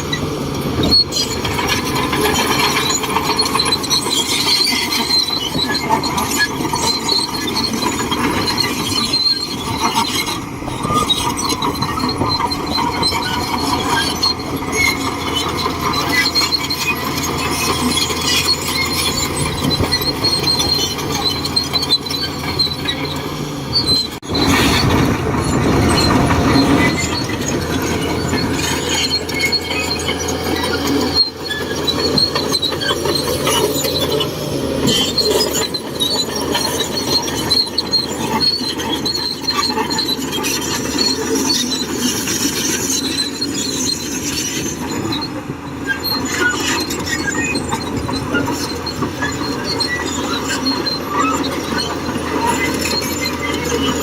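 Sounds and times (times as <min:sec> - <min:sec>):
bulldozer diesel engine under load: 0:00.0 - 0:54.0
steel tracks squealing and clanking: 0:00.0 - 0:54.0.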